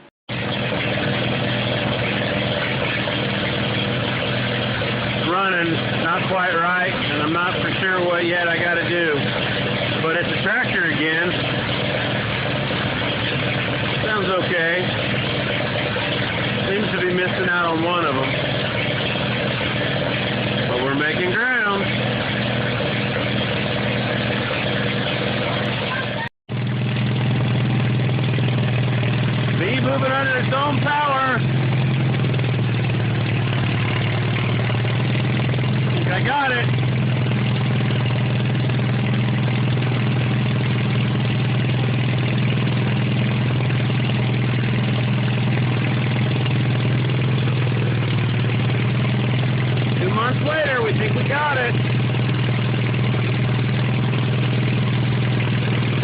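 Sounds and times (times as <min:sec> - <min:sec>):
tractor engine misfiring: 0:00.0 - 0:56.0.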